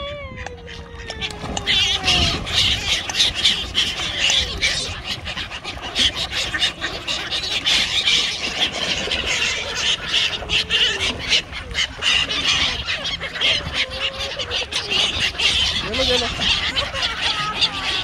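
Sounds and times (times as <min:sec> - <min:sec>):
water birds calling: 0:00.0 - 0:18.0
birds splashing on water: 0:00.6 - 0:18.0.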